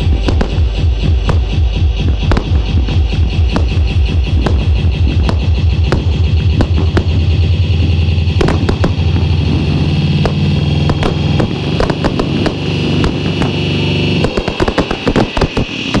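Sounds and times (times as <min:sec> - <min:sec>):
firework bangs and crackles: 0:00.0 - 0:16.0
trance music with pulsing bass: 0:00.0 - 0:16.0.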